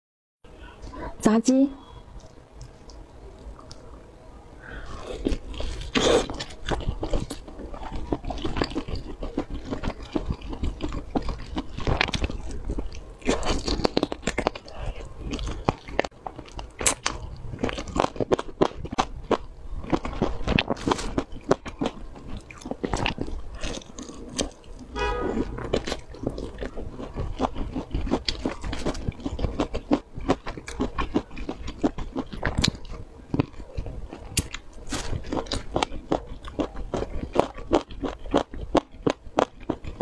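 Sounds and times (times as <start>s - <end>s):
crunching fried chicken: 4.6s - 40.0s.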